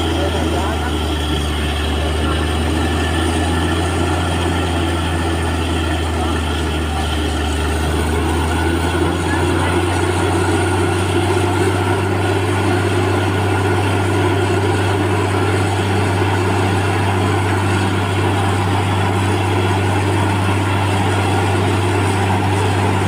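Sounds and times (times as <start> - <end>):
deep engine drone: 0.0 - 23.0.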